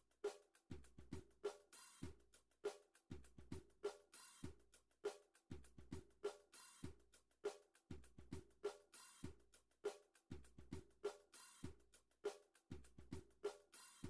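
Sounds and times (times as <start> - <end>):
faint drum-kit beat: 0.0 - 14.0.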